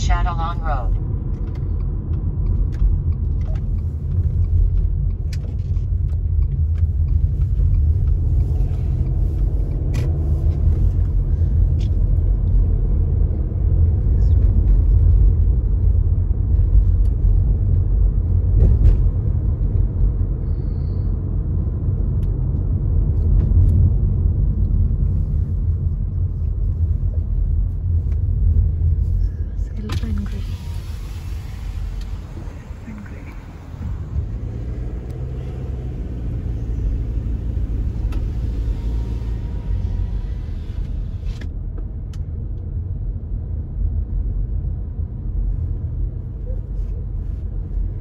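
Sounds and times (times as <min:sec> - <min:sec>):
car interior road rumble: 0:00.0 - 0:48.0.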